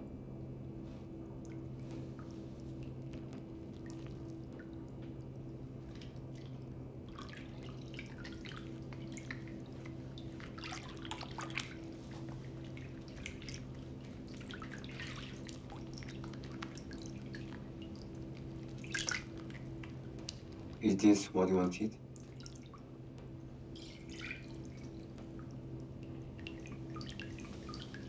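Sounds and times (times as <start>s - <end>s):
steady low hum: 0.0s - 28.0s
water dripping and splashing: 1.4s - 20.9s, 22.1s - 22.9s, 23.6s - 28.0s.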